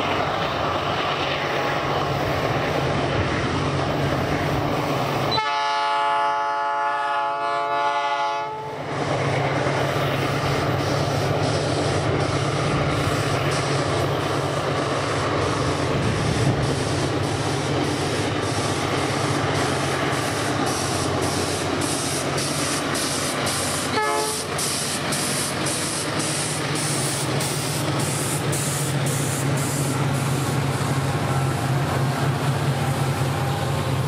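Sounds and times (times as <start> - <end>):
diesel locomotives passing: 0.0 - 34.0.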